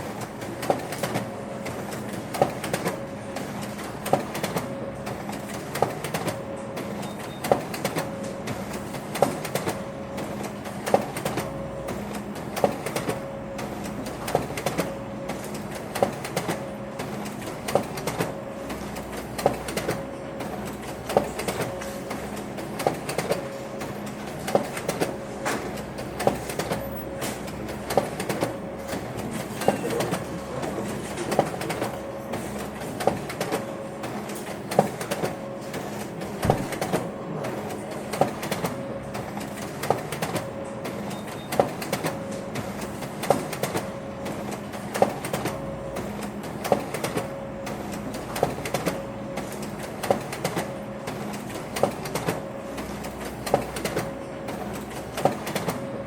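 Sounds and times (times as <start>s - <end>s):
printer mechanical clack: 0.0s - 56.0s
printer motor hum: 0.0s - 56.0s.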